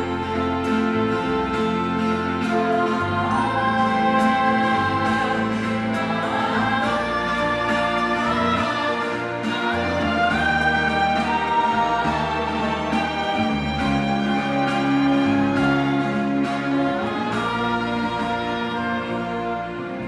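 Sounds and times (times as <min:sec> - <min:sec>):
orchestra playing: 0:00.0 - 0:20.0
voices singing: 0:00.0 - 0:20.0.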